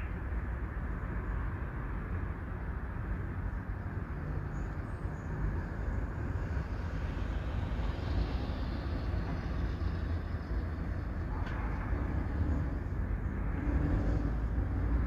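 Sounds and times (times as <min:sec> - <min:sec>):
car engine and tyre noise: 0:00.0 - 0:15.0
low rumble of vehicles: 0:00.0 - 0:15.0.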